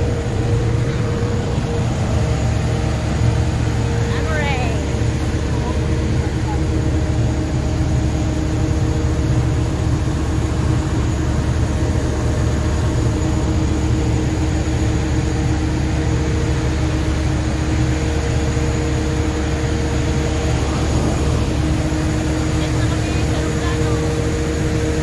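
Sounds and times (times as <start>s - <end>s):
faint steady hums: 0.0s - 25.0s
vehicle engine and road rumble: 0.0s - 25.0s.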